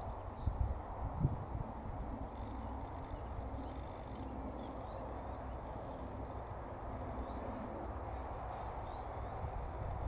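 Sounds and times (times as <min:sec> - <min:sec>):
distant jet engine rumble: 0:00.0 - 0:10.0.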